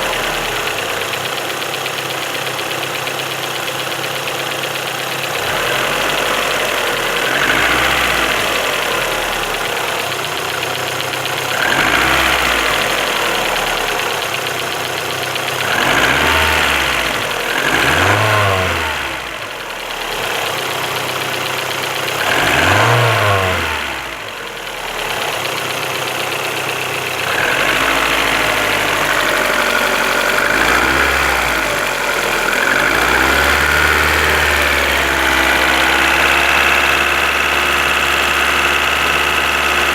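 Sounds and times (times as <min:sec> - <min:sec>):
car engine idling and revving: 0:00.0 - 0:39.9
engine knocking noise: 0:00.0 - 0:39.9.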